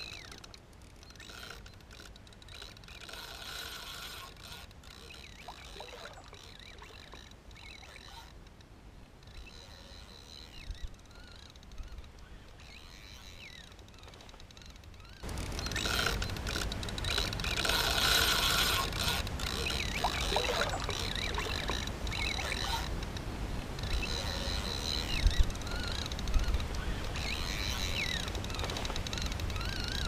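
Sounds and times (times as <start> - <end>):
fishing reel being cranked: 0.0 - 8.5, 9.2 - 23.2, 23.8 - 30.0.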